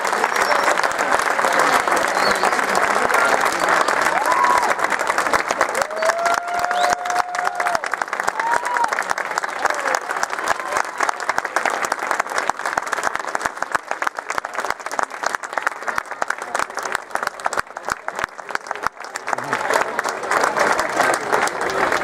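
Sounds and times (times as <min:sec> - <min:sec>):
audience clapping: 0:00.0 - 0:22.0.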